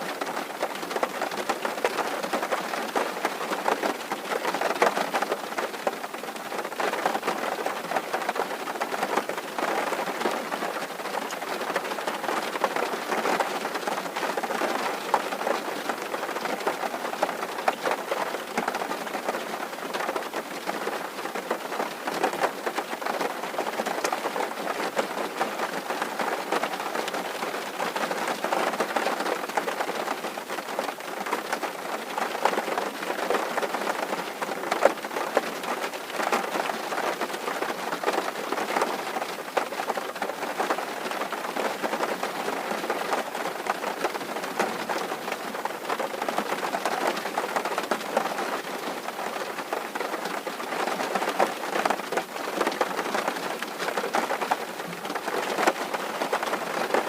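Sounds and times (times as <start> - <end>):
rain drumming on a tin roof: 0.0 - 57.0.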